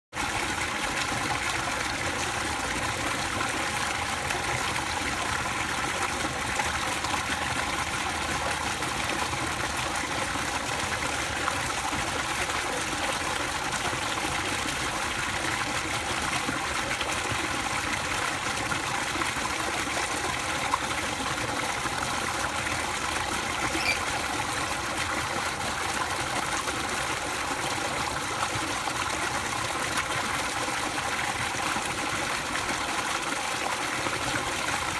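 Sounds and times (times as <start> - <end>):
water pouring into pool: 0.1 - 34.9.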